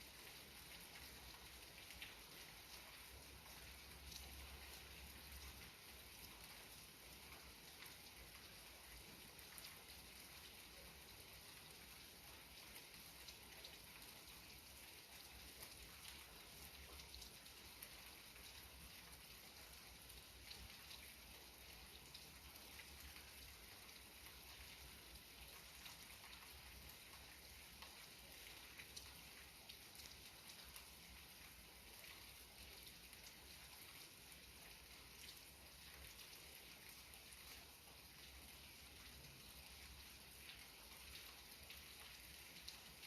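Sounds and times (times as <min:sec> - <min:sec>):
light rain ticking on a surface: 0:00.0 - 0:43.0.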